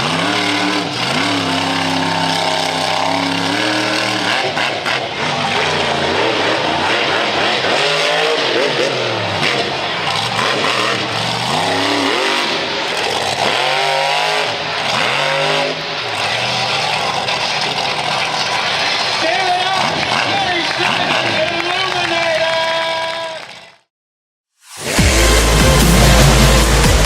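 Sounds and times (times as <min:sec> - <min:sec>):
monster truck engine revving: 0:00.0 - 0:22.0, 0:24.7 - 0:27.0.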